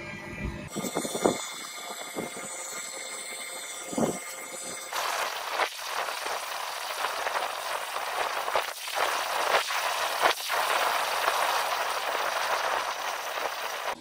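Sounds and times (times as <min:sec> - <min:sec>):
charcoal fire hissing and crackling: 0:00.7 - 0:14.0.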